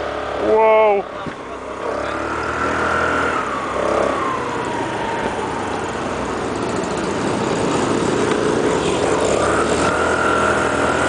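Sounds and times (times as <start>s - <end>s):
motor scooter engine whine: 0.0s - 11.0s
wind and road noise: 0.0s - 11.0s.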